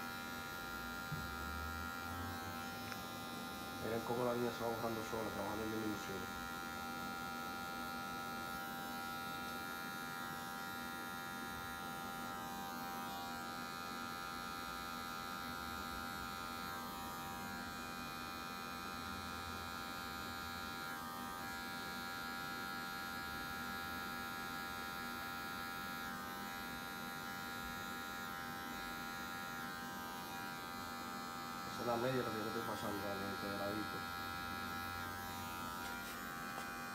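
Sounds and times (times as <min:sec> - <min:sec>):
electric hair clipper buzzing: 0:00.0 - 0:36.9.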